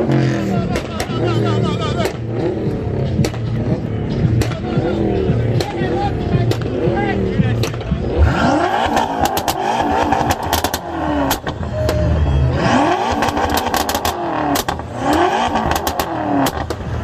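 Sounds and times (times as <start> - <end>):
exhaust cracks: 0.0 - 17.0
loud car engine revving: 0.0 - 17.0.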